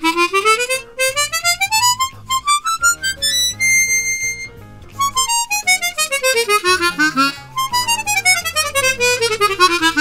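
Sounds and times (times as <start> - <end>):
harmonica playing fast runs: 0.0 - 10.0.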